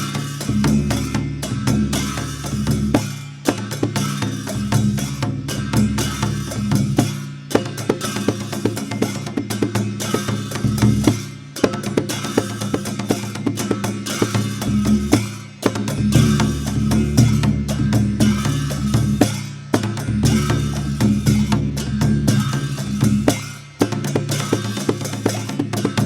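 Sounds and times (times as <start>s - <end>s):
barrel drum played fast: 0.0s - 26.0s.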